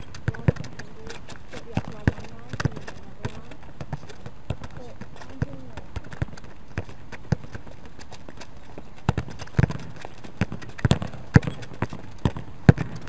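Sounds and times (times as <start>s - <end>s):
balls thudding against wall: 0.0s - 13.0s.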